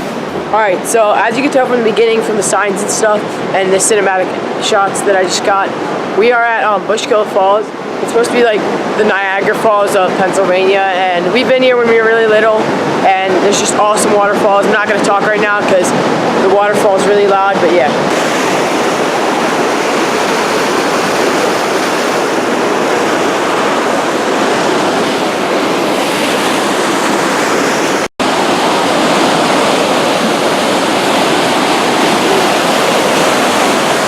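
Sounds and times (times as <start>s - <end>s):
waterfall roaring: 0.0s - 34.0s.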